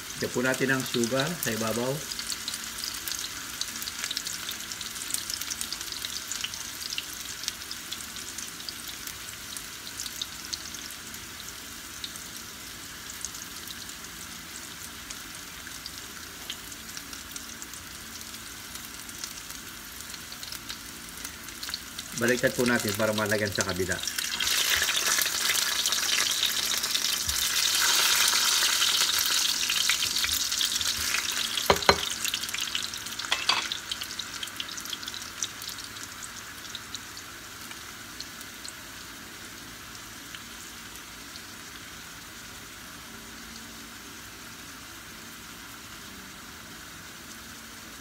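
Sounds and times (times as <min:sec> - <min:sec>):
potato slices sizzling in a pan: 0:00.0 - 0:48.0.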